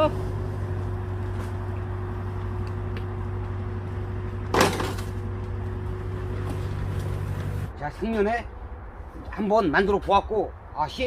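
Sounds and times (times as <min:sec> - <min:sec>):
engine running with low hum: 0:00.0 - 0:09.4.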